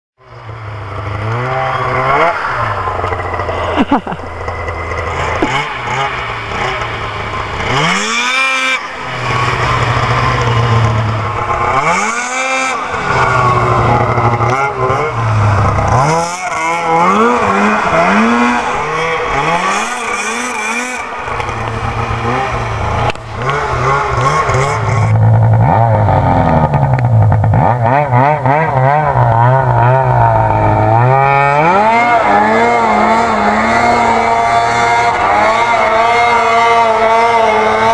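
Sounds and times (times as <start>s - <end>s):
snowmobile engine revving: 0.2s - 37.9s.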